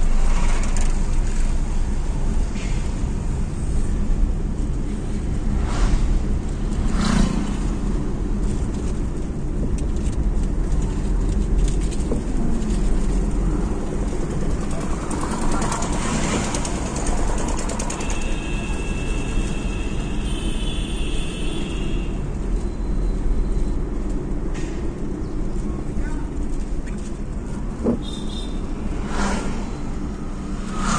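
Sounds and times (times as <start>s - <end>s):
car engine and tyre rumble: 0.0s - 30.9s.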